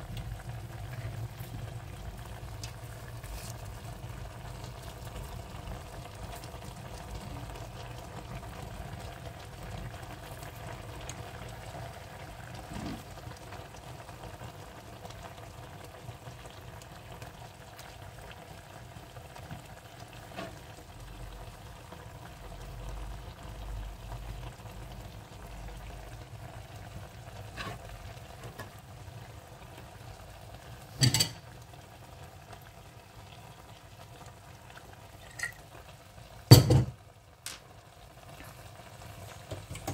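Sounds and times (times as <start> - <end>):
pot simmering: 0.0 - 39.9.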